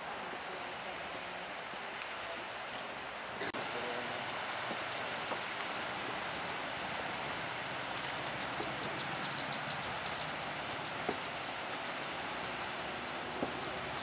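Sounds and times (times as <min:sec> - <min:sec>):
hot-spring water rushing: 0:00.0 - 0:14.0.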